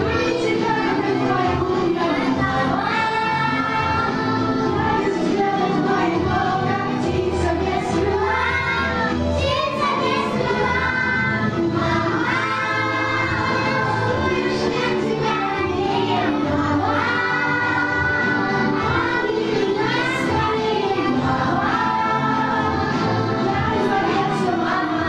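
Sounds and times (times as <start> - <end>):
children singing in chorus: 0.0 - 25.0
instrumental accompaniment: 0.0 - 25.0.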